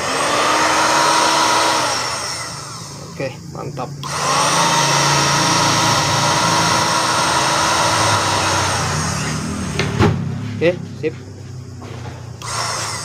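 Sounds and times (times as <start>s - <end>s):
blender motor whining: 0.0s - 10.0s, 12.4s - 13.0s.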